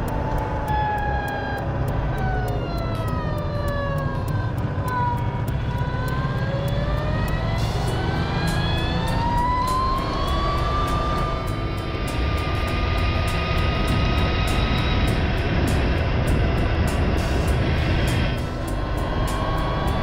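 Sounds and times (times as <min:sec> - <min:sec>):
road rumble: 0:00.0 - 0:20.0
wind: 0:00.0 - 0:20.0.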